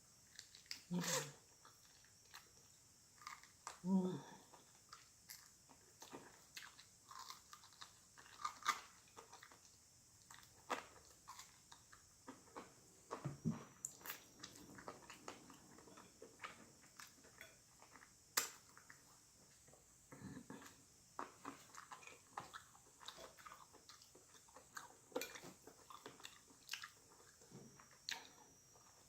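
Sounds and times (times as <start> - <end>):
person chewing food: 0.2 - 29.0.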